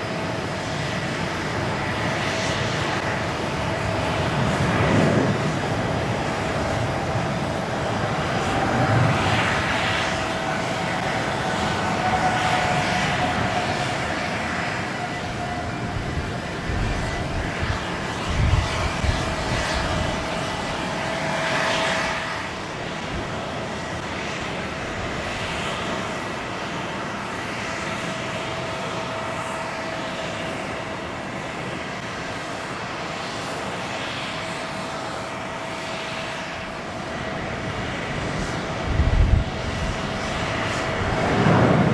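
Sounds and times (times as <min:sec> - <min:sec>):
jet engines at takeoff: 0:00.0 - 0:41.9.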